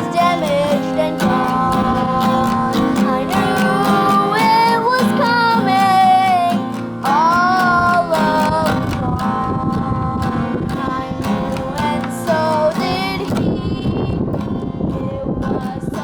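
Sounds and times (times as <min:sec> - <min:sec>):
girl singing: 0:00.0 - 0:16.0
strummed acoustic guitar: 0:00.0 - 0:16.0.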